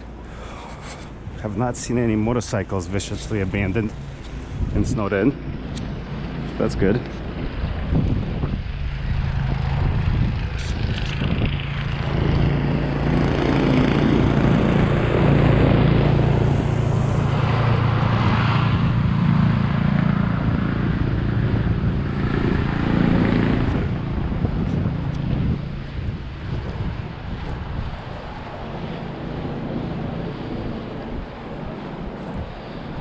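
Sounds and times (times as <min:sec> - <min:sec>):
vehicle engine hum: 0:00.0 - 0:33.0.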